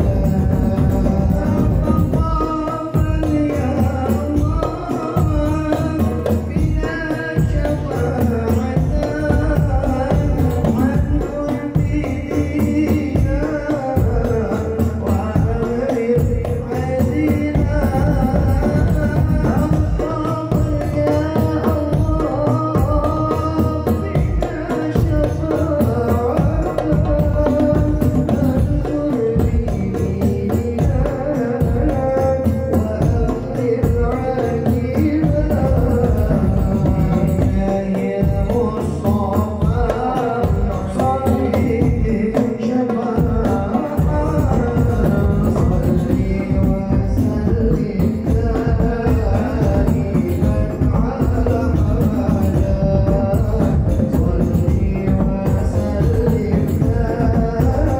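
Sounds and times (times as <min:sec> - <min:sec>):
frame drums: 0:00.0 - 0:57.9.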